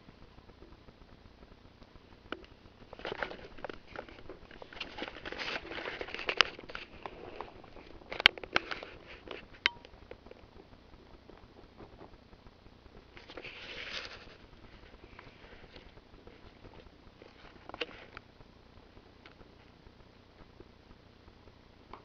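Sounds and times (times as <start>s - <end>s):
rabbits chewing and crunching food: 0.1s - 22.0s.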